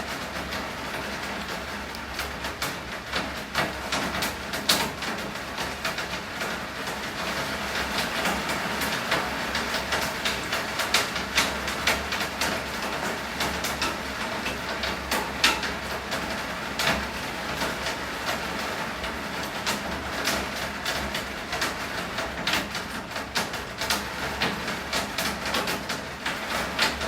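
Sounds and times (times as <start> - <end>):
rain tapping on hard surface: 0.0 - 27.0.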